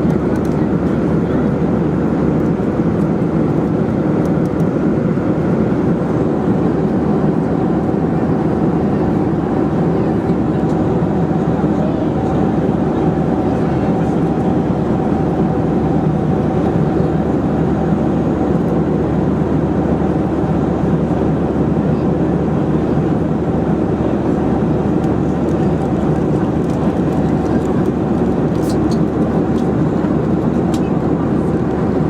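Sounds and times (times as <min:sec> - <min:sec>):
airflow rush in aircraft cabin: 0:00.0 - 0:32.0
jet engines droning: 0:00.0 - 0:32.0.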